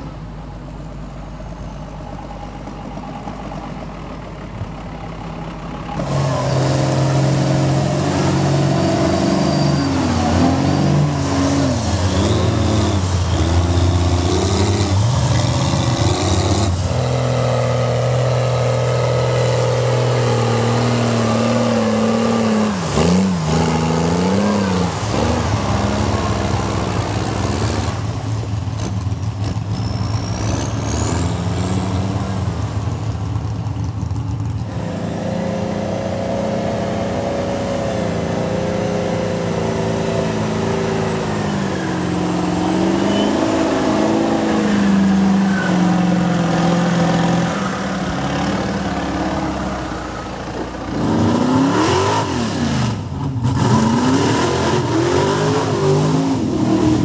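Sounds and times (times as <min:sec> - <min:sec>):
truck engines revving: 0:00.0 - 0:57.0
tyres churning through mud: 0:05.8 - 0:57.0.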